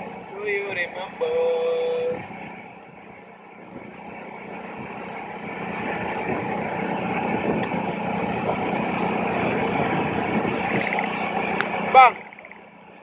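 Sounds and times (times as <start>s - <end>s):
rice transplanter engine running: 0.0s - 13.0s.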